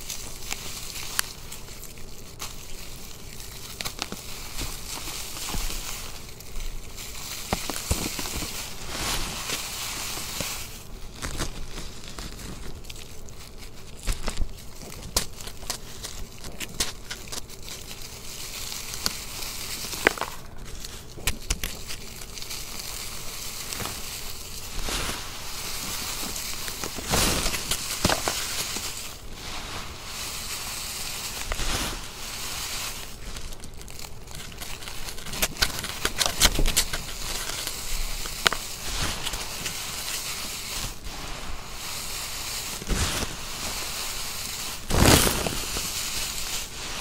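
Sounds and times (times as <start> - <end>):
hands crushing chalk clumps: 0.0 - 47.0
hands raking through confetti: 0.0 - 47.0.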